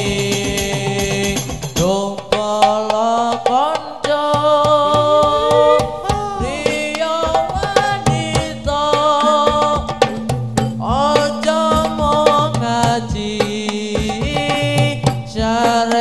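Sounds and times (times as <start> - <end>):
hand-struck frame drums: 0.0 - 16.0
man singing into a microphone: 0.0 - 16.0.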